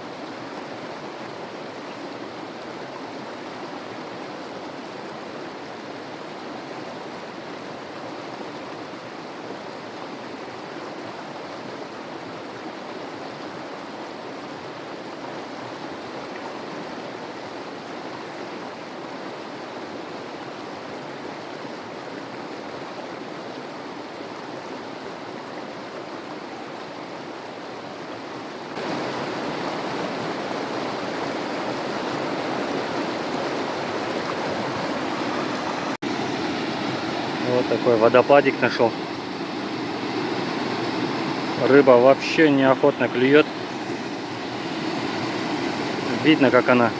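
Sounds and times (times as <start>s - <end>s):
river water rushing over rocks: 0.0s - 46.9s.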